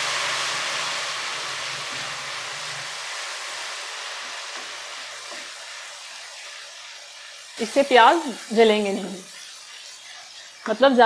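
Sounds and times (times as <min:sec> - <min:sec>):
onions sizzling in a pan: 0:00.0 - 0:11.0
spatula stirring in a pan: 0:00.1 - 0:11.0.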